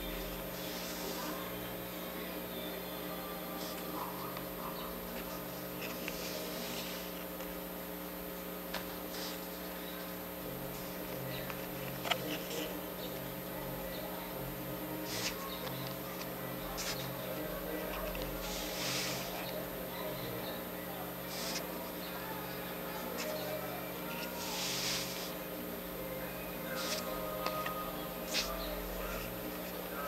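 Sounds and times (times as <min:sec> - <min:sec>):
steady electrical hum: 0:00.0 - 0:30.0.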